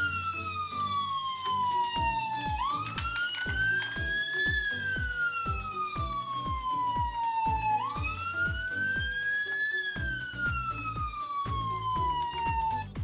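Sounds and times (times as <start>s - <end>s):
ambulance siren wailing: 0.0s - 13.0s
background music with steady beat: 0.0s - 13.0s.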